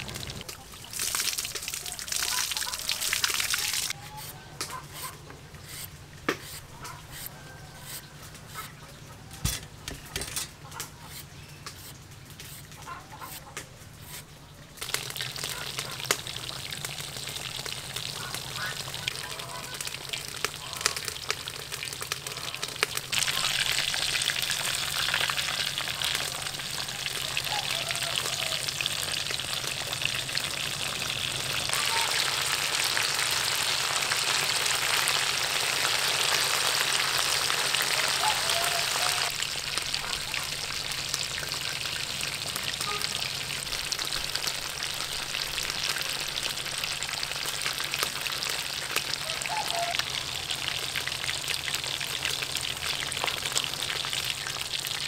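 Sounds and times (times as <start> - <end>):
chicken deep-frying in oil: 0.0 - 55.0.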